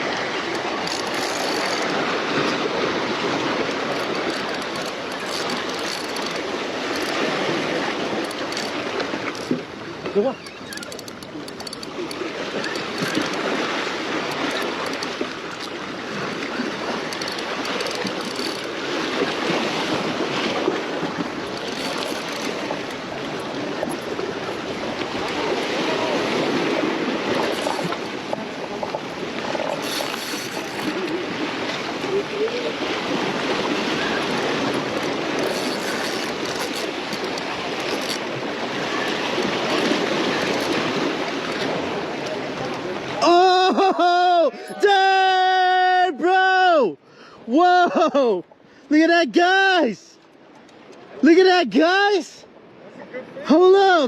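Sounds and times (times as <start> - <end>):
ocean surf washing against rocks: 0.0 - 45.9.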